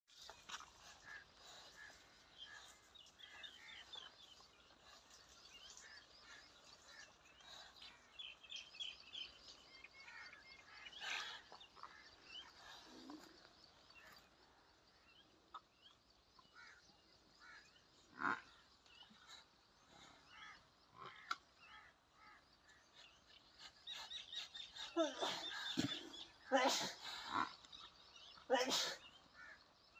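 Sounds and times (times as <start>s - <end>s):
faint birds chirping: 0.1s - 29.9s.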